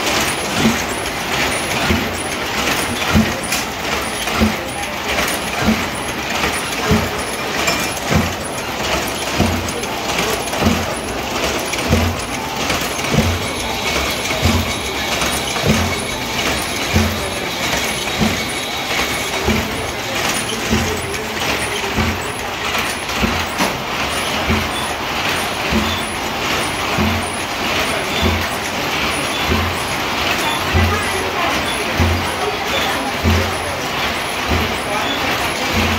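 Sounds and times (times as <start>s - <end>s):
loom heavy knock: 0.0s - 35.9s
mechanical clatter: 0.0s - 35.9s.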